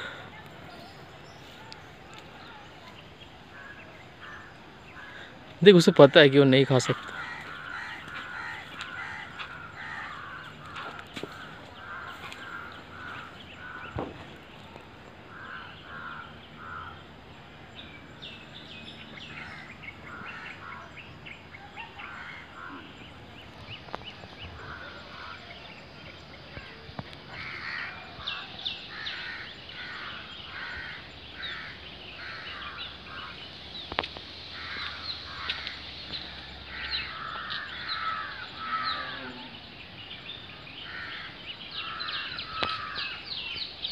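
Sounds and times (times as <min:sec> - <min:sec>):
birds calling: 0:00.0 - 0:43.9.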